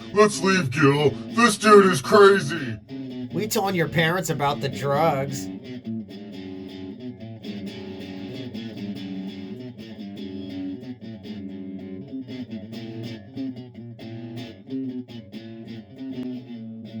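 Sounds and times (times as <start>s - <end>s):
electric and bass guitar: 0.0s - 17.0s.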